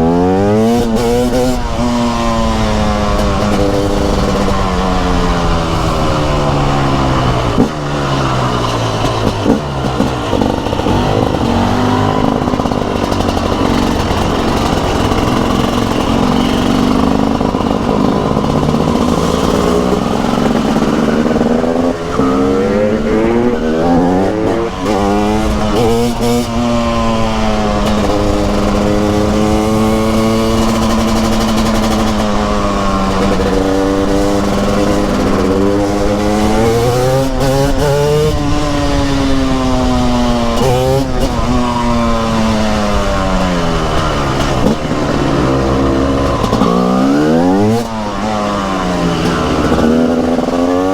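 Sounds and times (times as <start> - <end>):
two-stroke motorcycle engine: 0.0 - 50.9.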